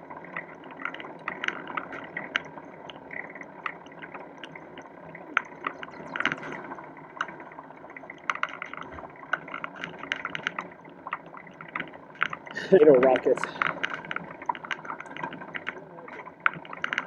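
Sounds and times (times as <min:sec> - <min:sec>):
bicycle clicks and rattles: 0:00.7 - 0:04.6, 0:05.4 - 0:07.4, 0:08.2 - 0:17.0.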